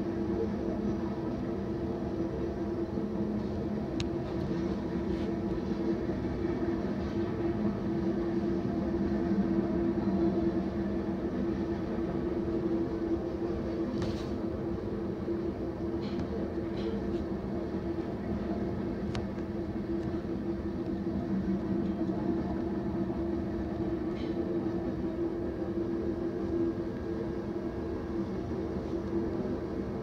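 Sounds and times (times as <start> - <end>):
freight train passing: 0.0 - 30.0.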